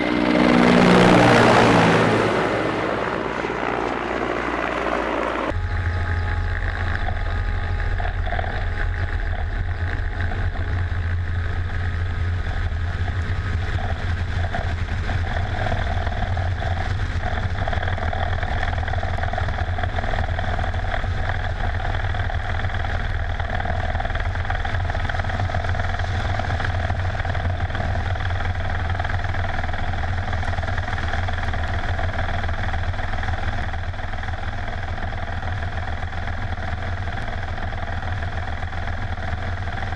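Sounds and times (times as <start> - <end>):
helicopter rotor and engine drone: 0.0 - 39.9
turbine whine: 0.0 - 39.9.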